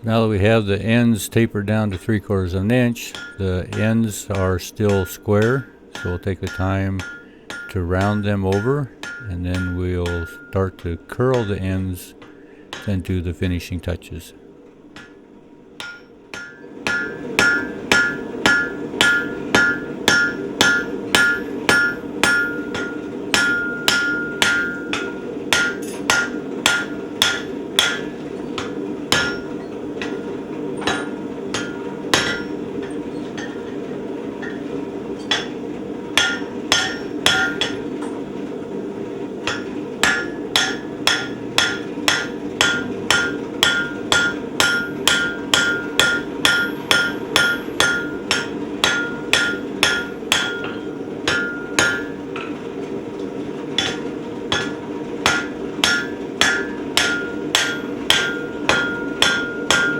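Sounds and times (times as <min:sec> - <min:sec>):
steady hum: 0:00.0 - 0:59.9
hammer ringing on anvil: 0:03.0 - 0:12.9, 0:15.8 - 0:38.2, 0:39.4 - 0:52.5, 0:53.8 - 0:59.9.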